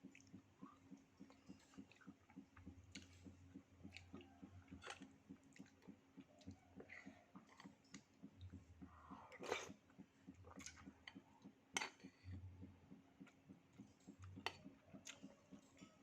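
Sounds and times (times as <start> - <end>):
faint low hum: 0.0 - 16.0
soft chewing and mouth clicks: 0.0 - 16.0.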